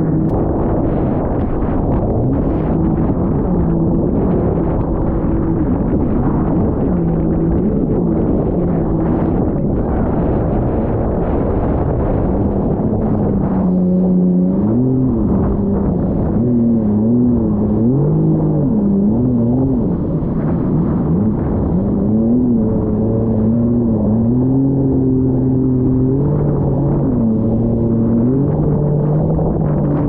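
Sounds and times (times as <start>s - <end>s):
jet ski engine revving: 0.0s - 30.0s
rush of wind and water: 0.0s - 30.0s.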